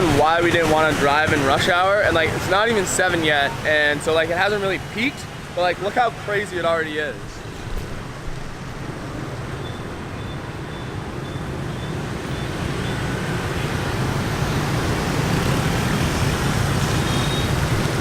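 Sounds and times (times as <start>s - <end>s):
traffic engines din: 0.0s - 18.0s.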